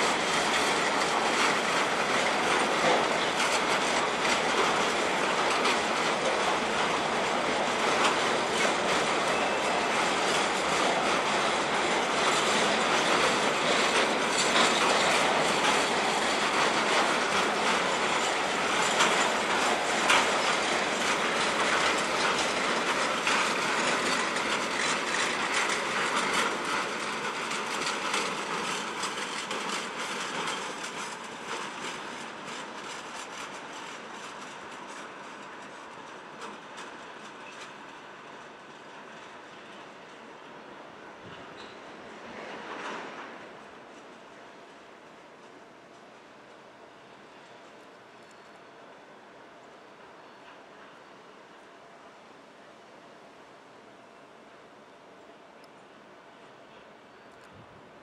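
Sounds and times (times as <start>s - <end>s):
freight train wheels clattering: 0.0s - 48.6s.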